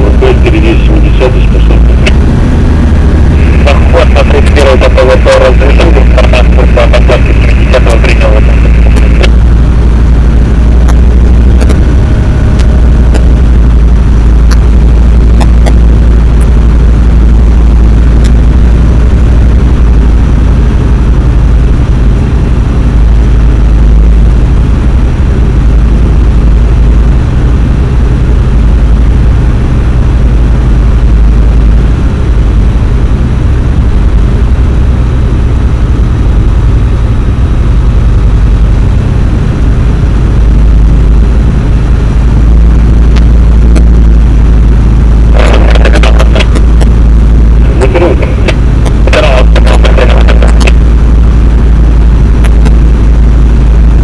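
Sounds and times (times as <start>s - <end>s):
aircraft engine and propeller rumble: 0.0s - 54.0s.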